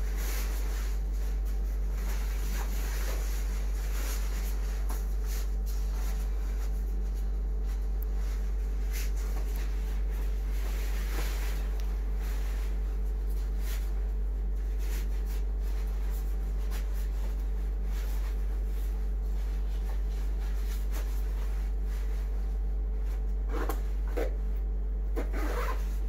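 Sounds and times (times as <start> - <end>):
fabric rustling: 0.0 - 24.4
steady low hum: 0.0 - 26.0.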